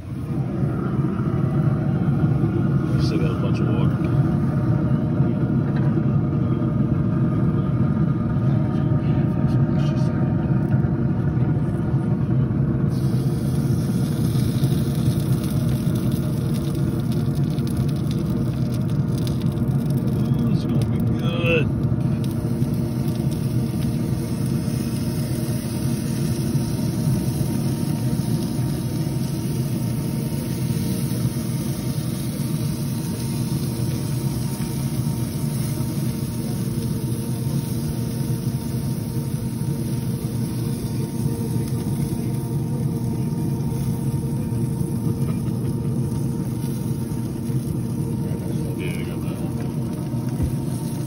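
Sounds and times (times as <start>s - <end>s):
faint constant hum: 0.0s - 51.0s
low mechanical rumble: 0.0s - 51.0s.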